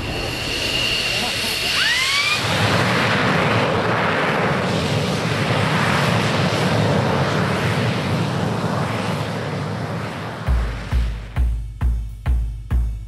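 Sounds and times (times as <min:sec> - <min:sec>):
jet engine rush: 0:00.0 - 0:13.0.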